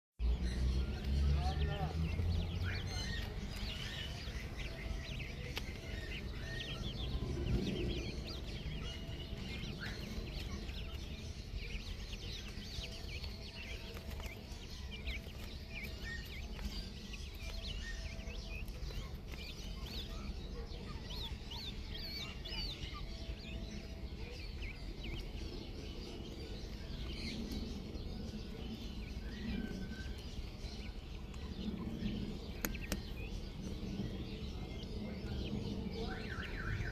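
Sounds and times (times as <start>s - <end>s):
chicks peeping: 0.2s - 36.9s.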